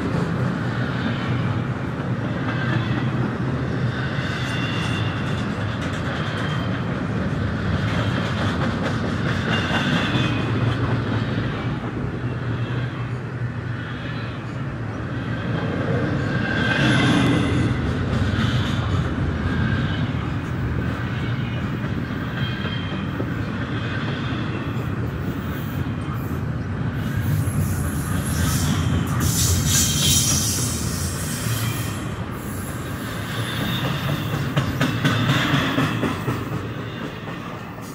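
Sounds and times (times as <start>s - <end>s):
steel wheels rolling on rails: 0.0s - 37.9s.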